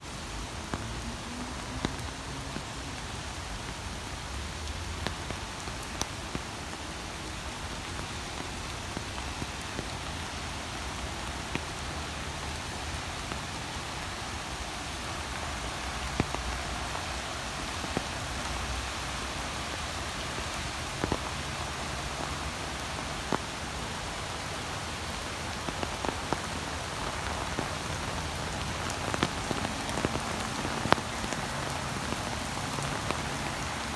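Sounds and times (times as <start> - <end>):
steady rain hiss: 0.0 - 33.9
sharp water drips: 0.6 - 33.9.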